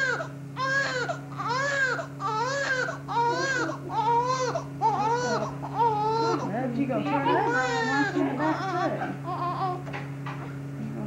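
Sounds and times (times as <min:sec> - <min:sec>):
baby crying: 0:00.0 - 0:06.5, 0:07.2 - 0:09.9
steady low hum: 0:00.0 - 0:11.0.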